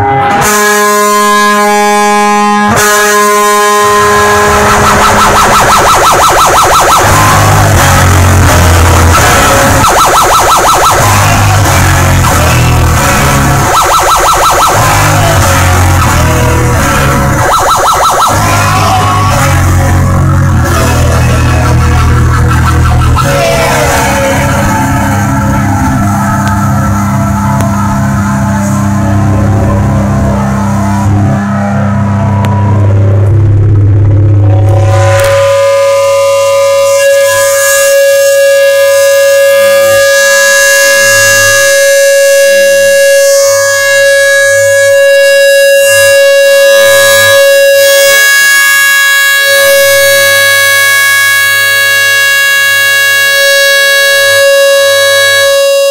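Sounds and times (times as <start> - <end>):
distorted electric guitar: 0.0 - 55.9
guitar feedback howl: 0.0 - 55.9.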